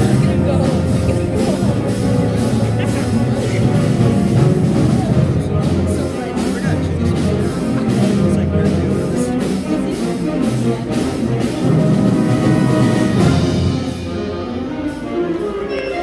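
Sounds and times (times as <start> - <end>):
concert band winds and brass: 0.0 - 16.0
regular drum hits: 0.0 - 16.0.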